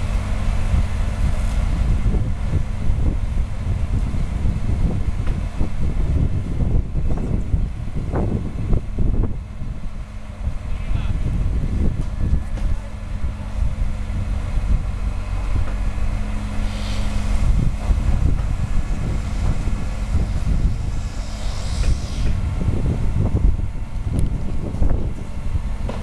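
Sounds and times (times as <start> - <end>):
crane diesel engine humming: 0.0 - 26.0
rough low rumble: 0.0 - 26.0.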